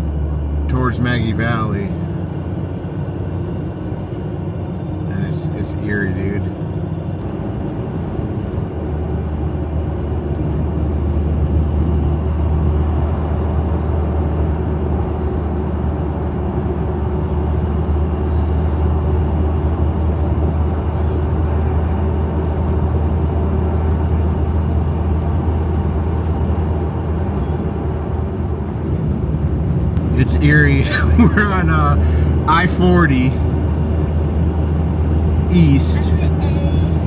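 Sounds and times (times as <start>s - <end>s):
car interior road drone: 0.0s - 37.0s.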